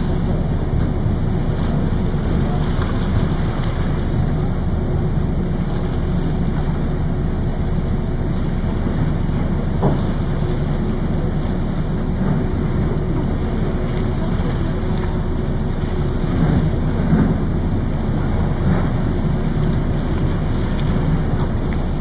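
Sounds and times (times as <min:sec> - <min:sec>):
ship engine rumble: 0:00.0 - 0:22.0
water rushing along hull: 0:00.0 - 0:22.0.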